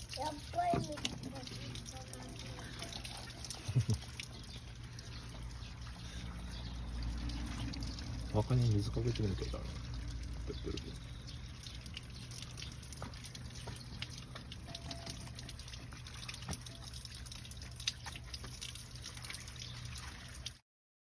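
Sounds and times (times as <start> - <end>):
water dripping and trickling: 0.0 - 20.6.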